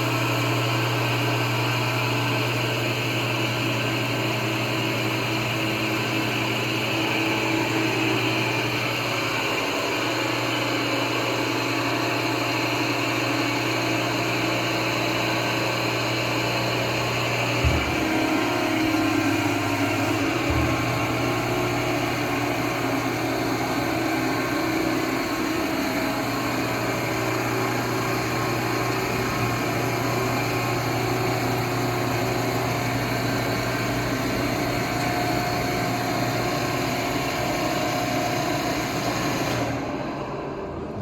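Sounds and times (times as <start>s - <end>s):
baler motor and hydraulic pump humming: 0.0s - 41.0s.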